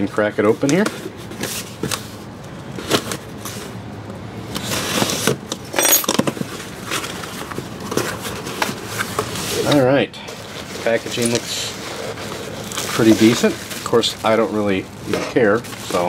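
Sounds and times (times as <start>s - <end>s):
cardboard scraping and rustling: 0.3s - 3.8s, 4.5s - 16.0s.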